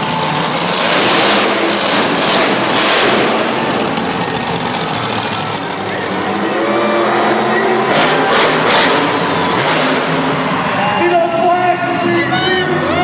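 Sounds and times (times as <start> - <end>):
monster truck engine: 0.0 - 13.0.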